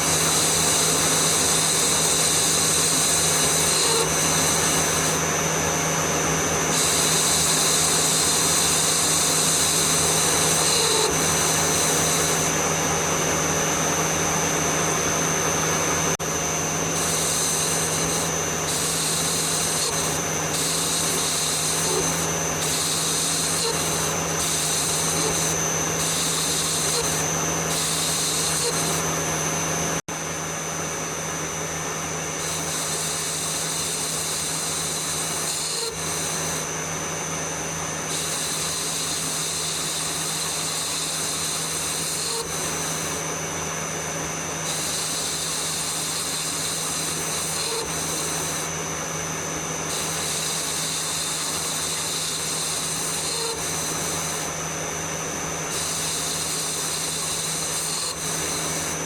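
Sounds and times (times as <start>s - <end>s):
lathe cutting hiss: 0.0s - 13.5s, 16.2s - 29.1s, 32.3s - 36.8s, 38.1s - 43.4s, 44.6s - 48.8s, 49.8s - 54.6s, 55.6s - 59.0s
metal lathe motor hum and whine: 0.0s - 59.0s.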